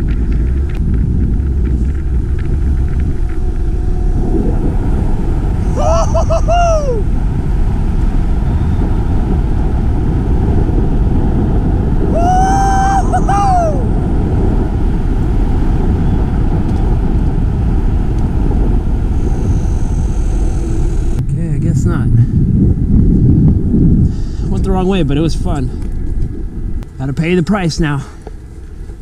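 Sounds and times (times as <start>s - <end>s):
bike tyre noise: 0.0s - 21.3s, 22.2s - 29.0s
wind buffeting microphone: 0.0s - 29.0s.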